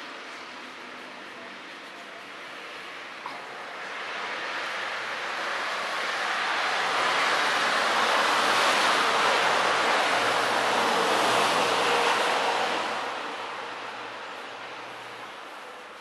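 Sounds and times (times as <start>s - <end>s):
car tyres hissing on wet road: 2.4s - 16.0s.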